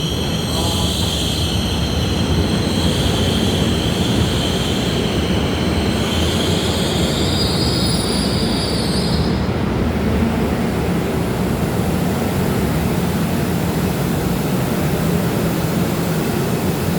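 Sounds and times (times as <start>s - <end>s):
steel wheels squealing on rail: 0.0s - 16.9s
train rumbling past: 0.0s - 16.9s.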